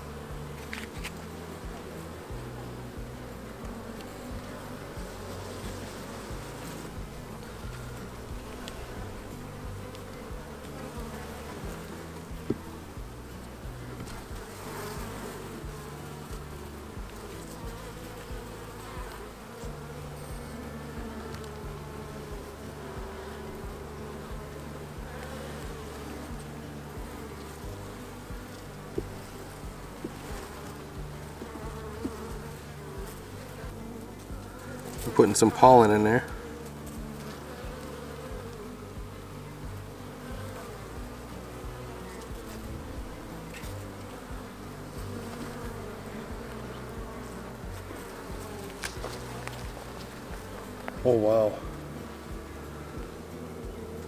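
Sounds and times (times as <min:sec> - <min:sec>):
honey bees buzzing: 0:00.0 - 0:54.0.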